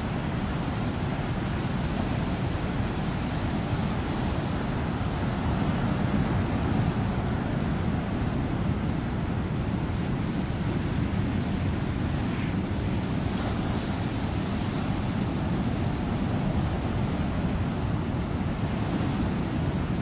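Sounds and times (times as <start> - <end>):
ocean surf on beach: 0.0 - 20.0
wind rumble on microphone: 0.0 - 20.0.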